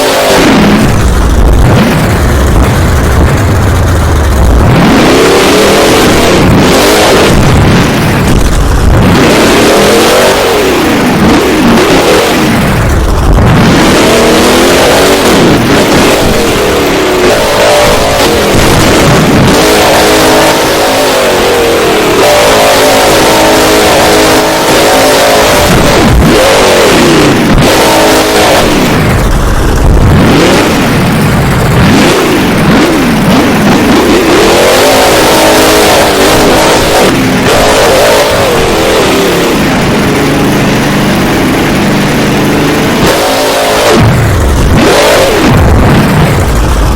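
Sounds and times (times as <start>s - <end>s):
truck engine revving: 0.0s - 46.9s.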